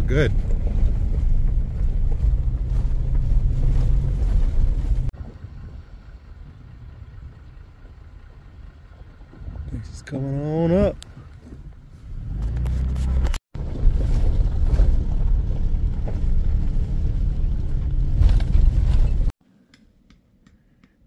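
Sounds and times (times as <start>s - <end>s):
vehicle engine and tyre drone: 0.0s - 21.0s.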